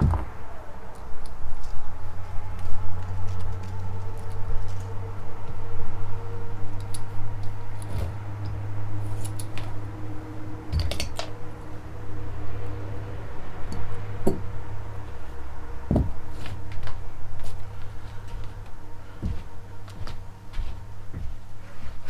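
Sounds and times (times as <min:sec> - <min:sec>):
low hum: 0:00.0 - 0:21.6.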